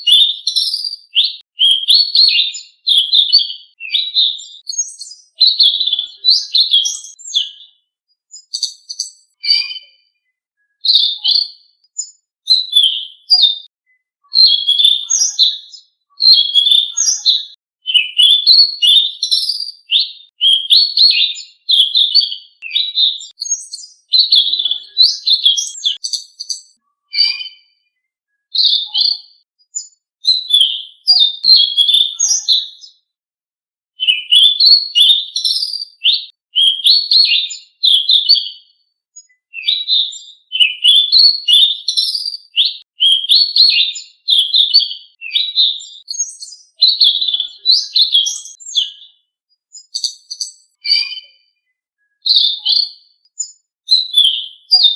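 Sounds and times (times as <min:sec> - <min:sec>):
songbird chirps and whistles: 0:00.0 - 0:33.0, 0:34.0 - 0:54.9.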